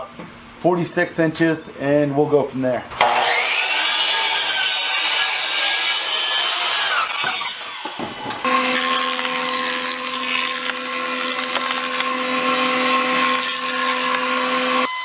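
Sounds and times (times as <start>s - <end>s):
jointer planing a board: 3.0s - 15.0s.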